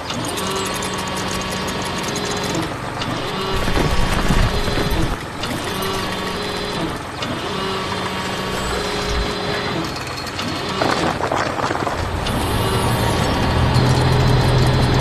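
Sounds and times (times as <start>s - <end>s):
low engine hum: 0.0s - 15.0s
mechanical whirr: 0.0s - 15.0s
rapid ratcheting clatter: 0.0s - 15.0s.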